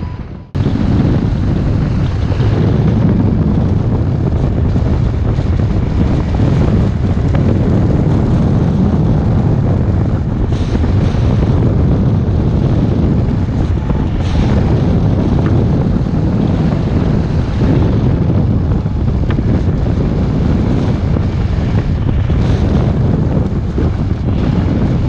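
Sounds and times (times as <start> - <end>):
wind roar on microphone: 0.0 - 25.0.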